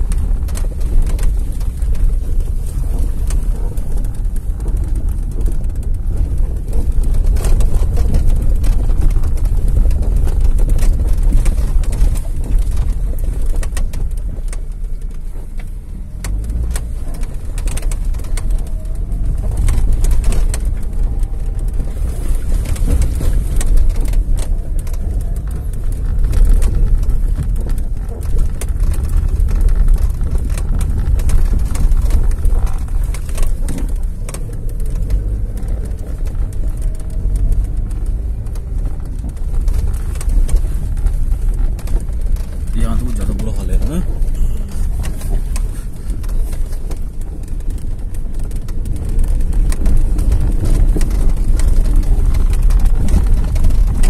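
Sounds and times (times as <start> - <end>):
road noise: 0.0 - 54.0
wind rumble: 0.0 - 54.0.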